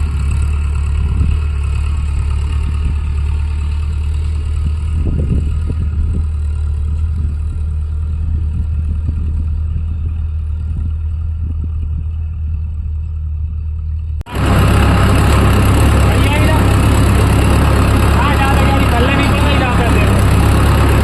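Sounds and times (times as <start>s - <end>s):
louder engine: 0.0s - 10.6s, 14.2s - 21.0s
tractor diesel engine running: 0.0s - 21.0s.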